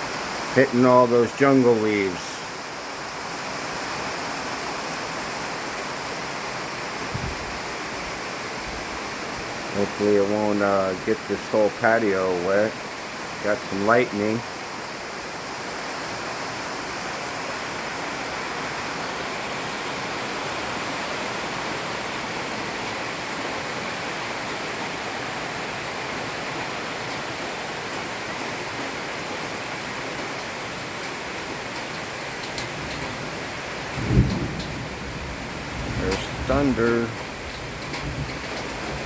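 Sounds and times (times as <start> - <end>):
heavy rain on foliage: 0.0 - 39.0.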